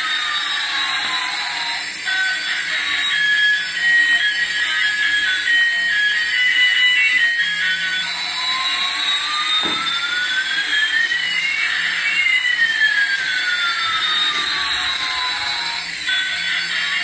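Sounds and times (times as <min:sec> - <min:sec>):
electronic jet engine hiss: 0:00.0 - 0:17.0.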